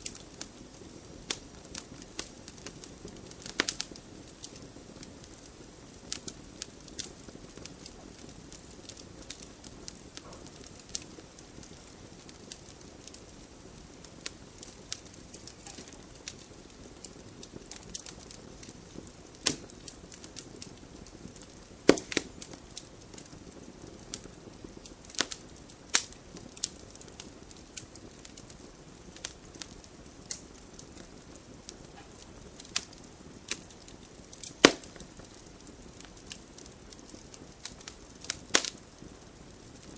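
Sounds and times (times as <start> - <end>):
wood fire crackling in fireplace: 0.0 - 39.9.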